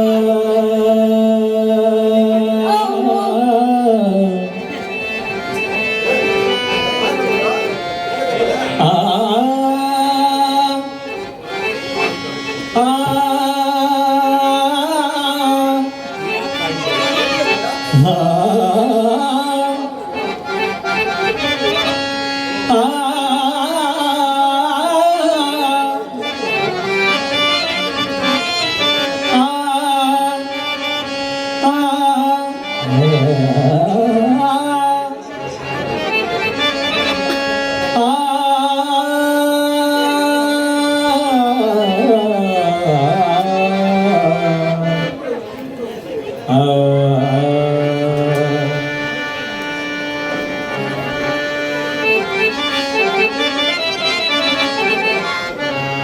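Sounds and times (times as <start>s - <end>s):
tabla: 0.0s - 45.1s
harmonium melody: 0.0s - 56.0s.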